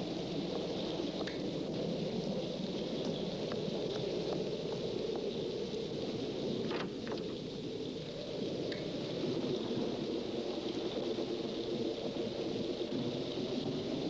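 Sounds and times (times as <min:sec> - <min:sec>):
rain: 0:00.0 - 0:14.0
wind: 0:00.0 - 0:14.0.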